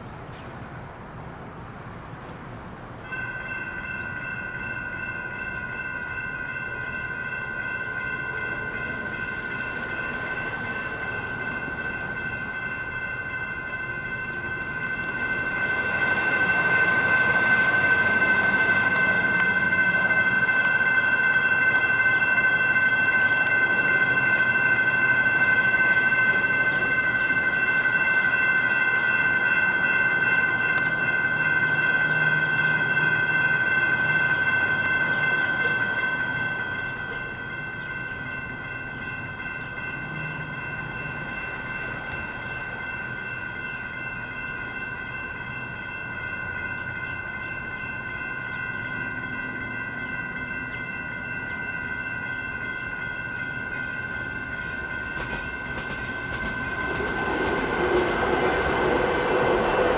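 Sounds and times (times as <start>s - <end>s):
light rail train passing: 0.0s - 59.9s
electronic crossing bells ringing: 3.1s - 59.8s.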